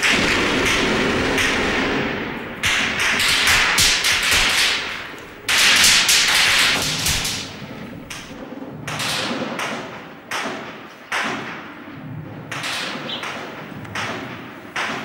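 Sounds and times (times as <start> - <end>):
gunshots with echoing tail: 0.0 - 15.0.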